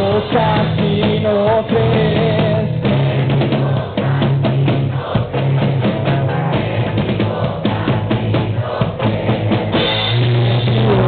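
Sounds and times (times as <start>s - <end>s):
drum kit groove: 0.0s - 11.0s
live rock band: 0.0s - 11.0s.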